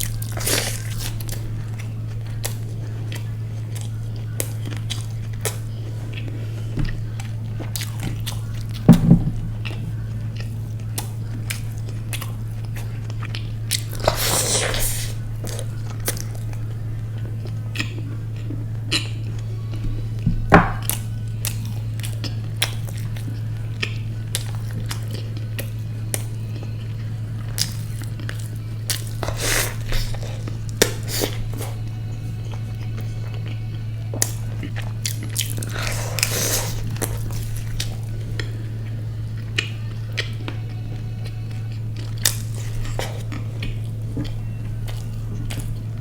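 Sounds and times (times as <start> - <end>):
crunchy chewing: 0.0 - 46.0
steady low hum: 0.0 - 46.0.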